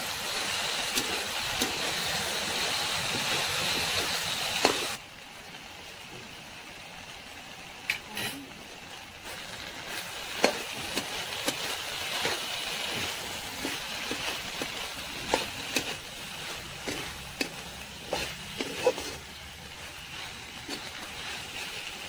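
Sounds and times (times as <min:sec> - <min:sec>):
metal spatula scraping wok: 0:00.0 - 0:05.0, 0:09.2 - 0:22.0
food sizzling: 0:00.0 - 0:22.0.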